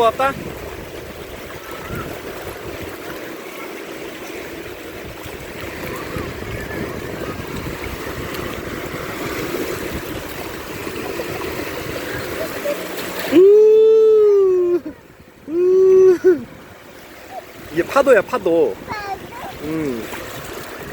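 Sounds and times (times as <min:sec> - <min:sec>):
wind buffeting microphone: 0:00.0 - 0:03.2, 0:04.5 - 0:12.7, 0:14.0 - 0:20.9
sea waves washing onto beach: 0:00.0 - 0:20.9.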